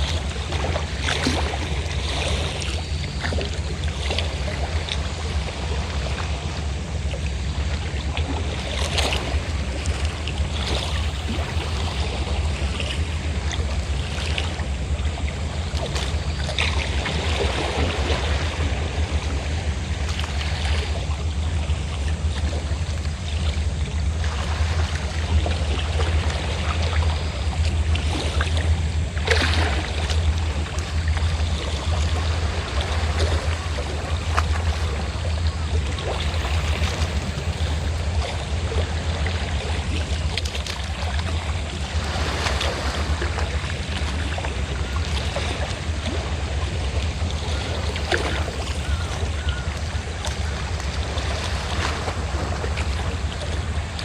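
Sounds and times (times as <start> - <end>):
boat engine droning: 0.0 - 54.0
sea waves breaking and lapping: 0.0 - 54.0.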